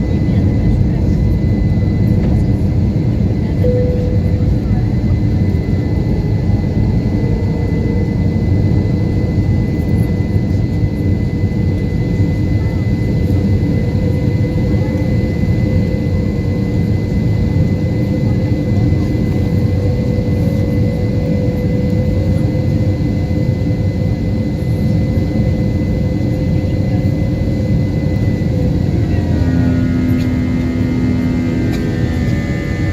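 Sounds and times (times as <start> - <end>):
jet engines rumbling with whine: 0.0 - 32.9.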